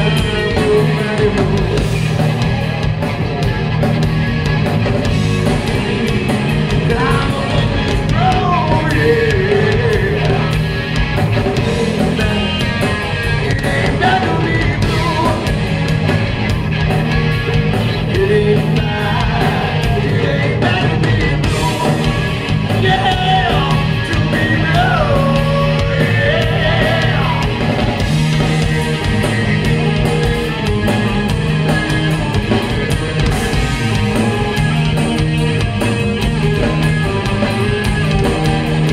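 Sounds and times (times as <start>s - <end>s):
gliding lead guitar line: 0.0s - 38.9s
live rock band playing: 0.0s - 38.9s.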